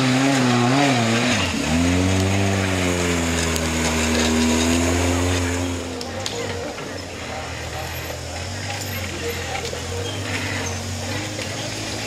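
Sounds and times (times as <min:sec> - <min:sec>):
off-road buggy engine revving: 0:00.0 - 0:12.0.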